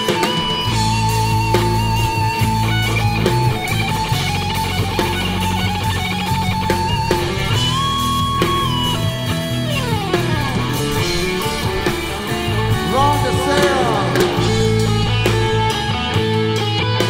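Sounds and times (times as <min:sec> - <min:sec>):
electric guitar solo: 0:00.0 - 0:17.0
live rock band playing: 0:00.0 - 0:17.0.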